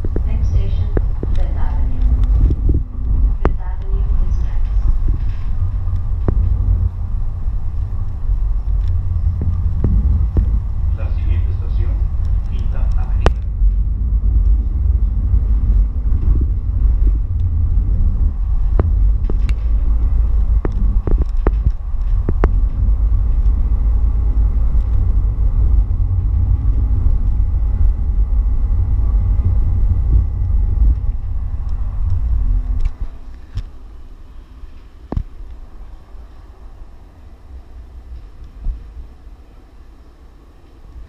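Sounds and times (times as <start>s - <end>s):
light-rail car rumbling on track: 0.0s - 41.0s.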